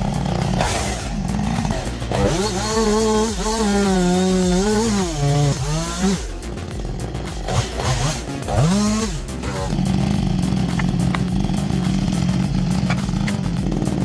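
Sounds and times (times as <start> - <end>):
chainsaw cutting a tree: 0.0 - 14.0.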